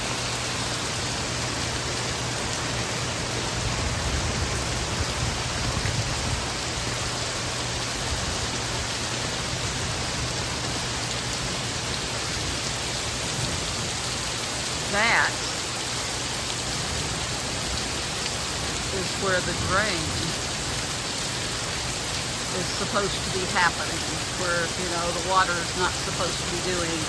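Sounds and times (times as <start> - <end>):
heavy rain hiss: 0.0 - 27.0.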